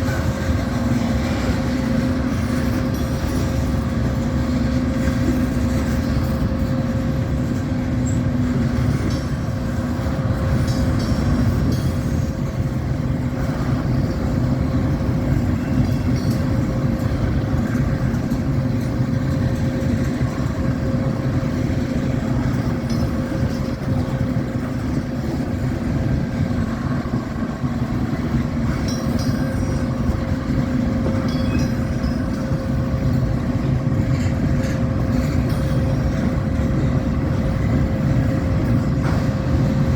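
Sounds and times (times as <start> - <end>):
constant steady hum: 0.0 - 39.9
vehicle engine rumbling: 0.0 - 39.9.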